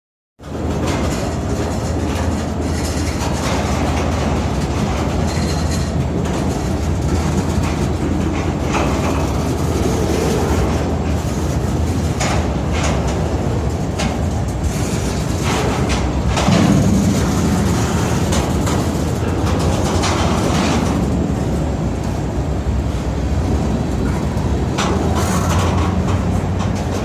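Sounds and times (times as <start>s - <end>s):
freight cars rumbling over rails: 0.4s - 27.0s.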